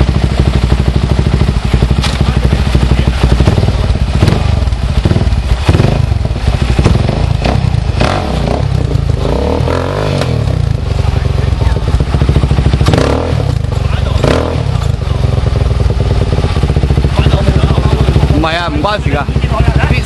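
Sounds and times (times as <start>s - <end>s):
dirt bike engine at low revs: 0.0s - 20.0s.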